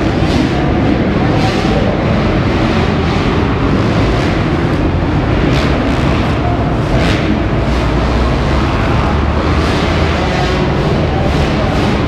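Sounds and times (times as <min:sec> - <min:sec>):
dirt bike engines racing: 0:00.0 - 0:12.0.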